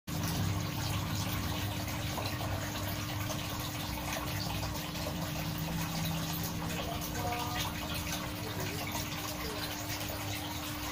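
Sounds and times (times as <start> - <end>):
aquarium water bubbling: 0.1 - 10.9.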